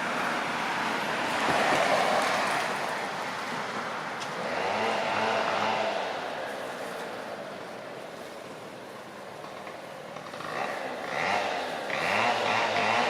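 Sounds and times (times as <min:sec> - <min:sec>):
faint engine passing by: 0:00.0 - 0:09.1, 0:10.2 - 0:13.0
traffic rushing past: 0:00.0 - 0:13.0.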